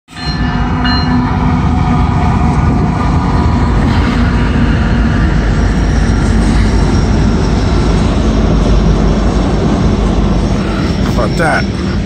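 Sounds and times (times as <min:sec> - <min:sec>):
freight train passing: 0:00.1 - 0:12.0.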